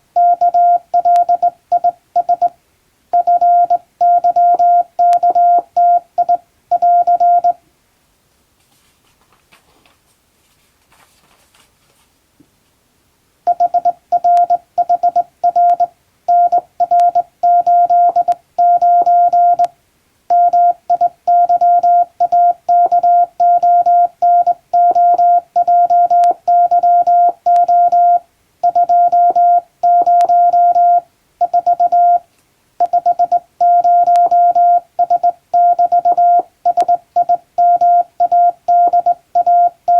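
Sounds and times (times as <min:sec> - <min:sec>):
morse code beeps: 0:00.2 - 0:02.5, 0:03.2 - 0:07.6, 0:13.5 - 0:19.7, 0:20.3 - 0:32.2, 0:32.8 - 0:39.9.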